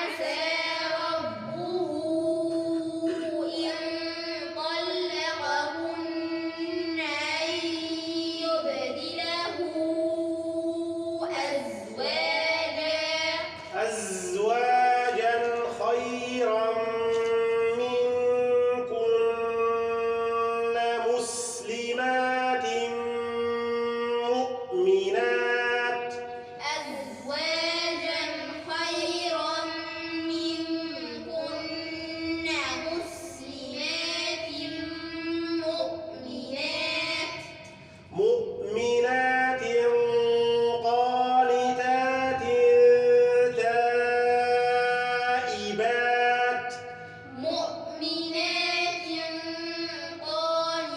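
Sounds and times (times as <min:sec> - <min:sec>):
children chanting together: 0:00.0 - 0:18.1, 0:25.9 - 0:38.9, 0:40.8 - 0:50.9.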